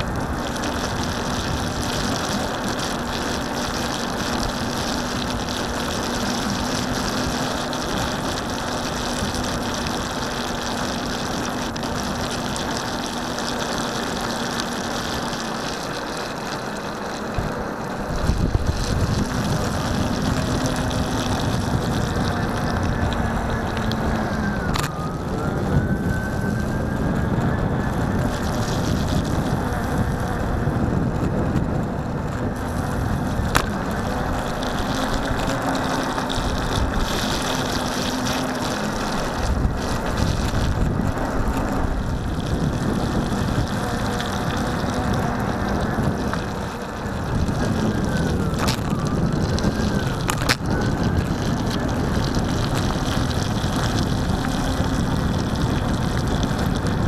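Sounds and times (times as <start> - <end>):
tyre hissing on wet road: 0.0 - 25.7, 32.4 - 57.0
faint motor hum: 0.0 - 57.0.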